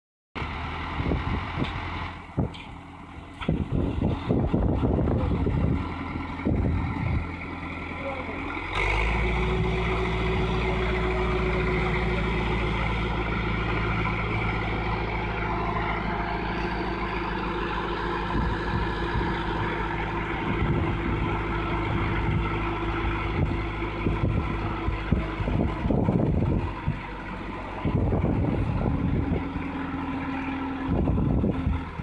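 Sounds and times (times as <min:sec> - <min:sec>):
tractor engine running: 0:00.4 - 0:32.0.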